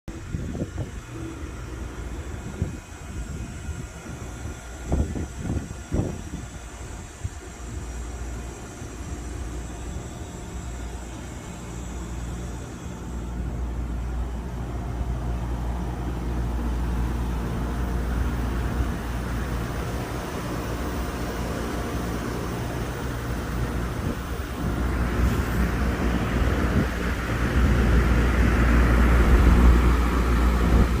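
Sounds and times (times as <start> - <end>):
air conditioner unit humming: 0.1 - 31.0
rushing fan noise: 0.1 - 31.0.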